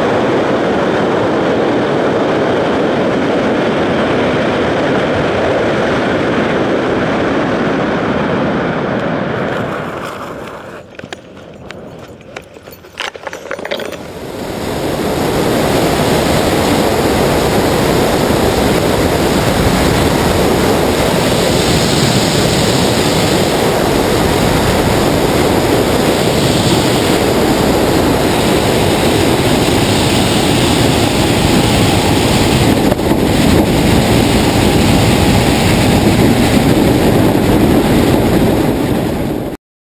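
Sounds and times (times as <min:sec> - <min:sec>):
aircraft engine and propeller: 0:00.0 - 0:39.6
wind rushing on microphone: 0:00.0 - 0:39.6.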